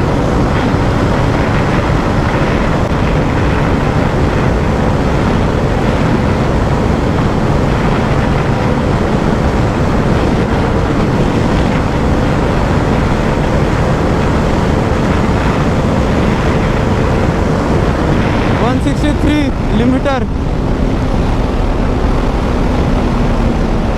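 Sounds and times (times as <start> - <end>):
loud wind rush: 0.0 - 23.9
motorcycle engine steady note: 0.0 - 23.9.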